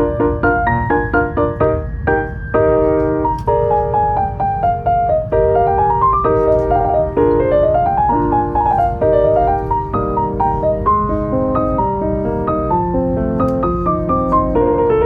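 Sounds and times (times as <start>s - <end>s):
piano music: 0.0s - 15.0s
steady low rumble: 0.0s - 15.0s.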